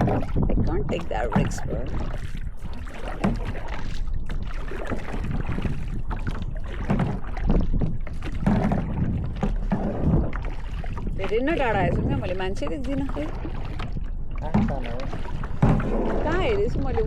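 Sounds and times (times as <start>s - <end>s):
paddle splashing in water: 0.0s - 17.0s
wind on microphone: 0.0s - 17.0s.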